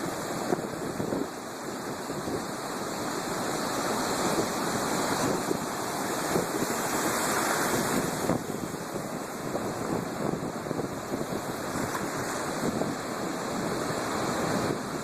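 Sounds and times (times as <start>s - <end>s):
waves breaking and washing: 0.0s - 15.0s
wind: 0.0s - 15.0s.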